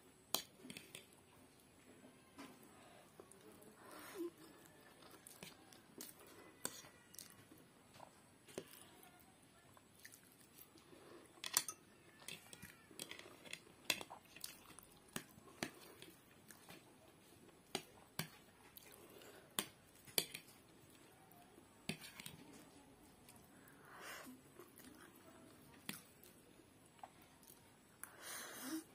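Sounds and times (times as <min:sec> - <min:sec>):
soft chewing: 0:00.1 - 0:28.9.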